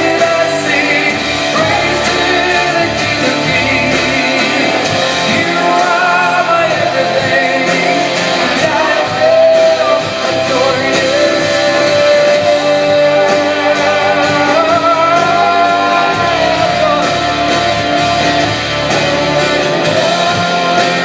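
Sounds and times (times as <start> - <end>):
electric guitar: 0.0 - 21.0
worship band playing live: 0.0 - 21.0.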